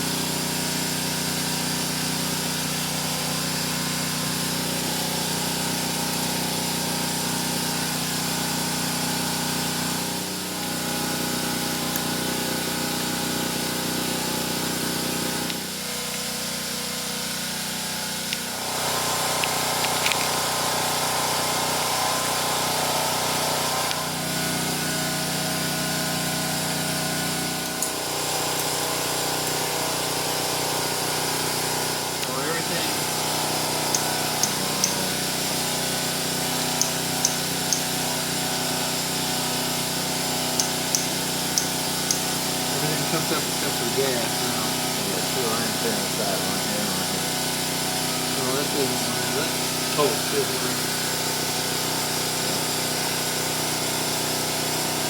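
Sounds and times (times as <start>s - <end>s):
motor droning hum: 0.8s - 54.6s.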